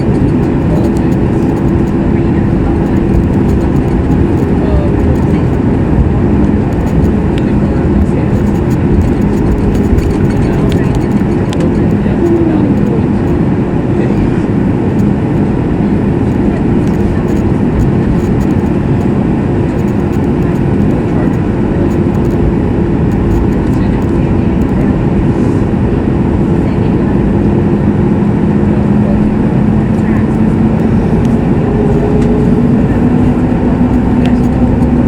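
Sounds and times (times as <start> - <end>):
airliner cabin air rush: 0.0 - 35.0
jet engines droning: 0.0 - 35.0
steady humming tones: 0.0 - 35.0.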